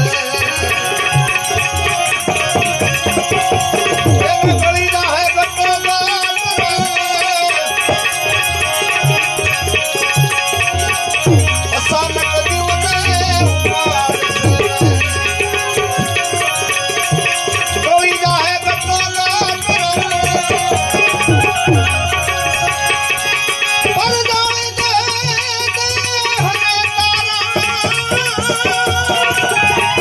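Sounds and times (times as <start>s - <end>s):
devotional song melody: 0.0s - 30.0s
hand drum beats: 0.0s - 30.0s.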